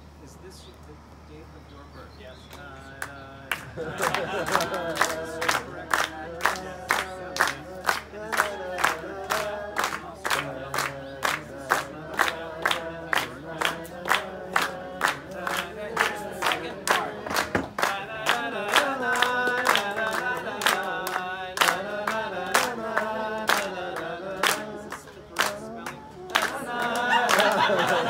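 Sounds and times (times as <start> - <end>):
group singing wordless melody: 2.5 - 28.0
people clapping in time: 2.5 - 28.0.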